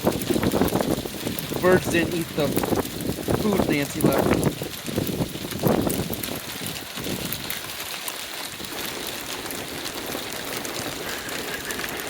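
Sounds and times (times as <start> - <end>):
rain and small hail pattering: 0.0 - 12.0.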